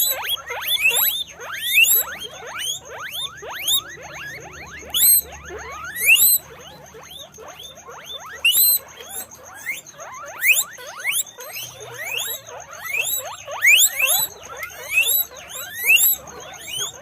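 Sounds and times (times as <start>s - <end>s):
guinea pigs squeaking: 0.0s - 17.0s.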